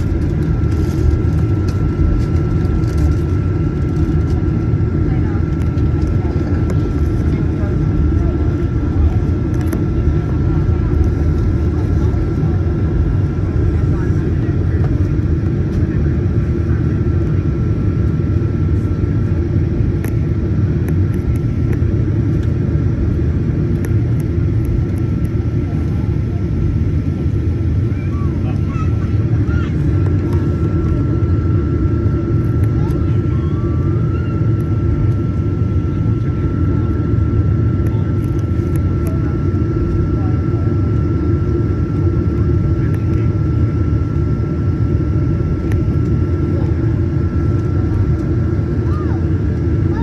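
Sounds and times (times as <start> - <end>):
jet engine rumble: 0.0 - 50.0.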